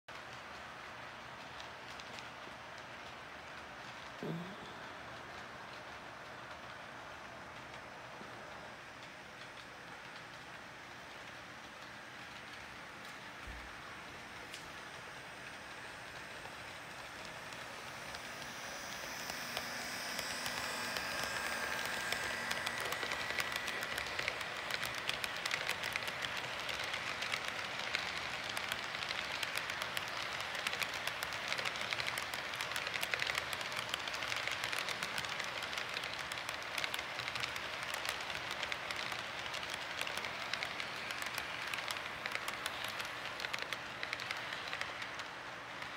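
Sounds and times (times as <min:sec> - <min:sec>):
model train wheels rattling: 0:05.2 - 0:45.9.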